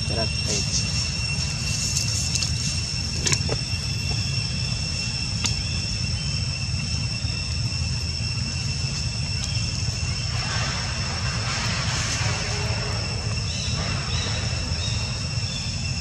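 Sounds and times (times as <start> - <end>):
constant low rumble: 0.0 - 16.0
steady high-pitched drone: 0.0 - 16.0.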